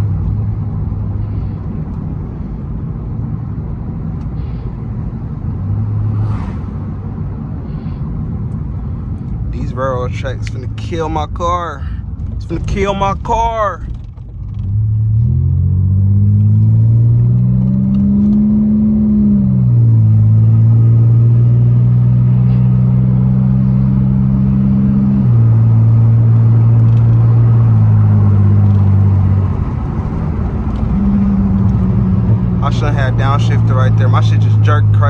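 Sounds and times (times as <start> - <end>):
car exhaust droning: 0.0 - 35.0.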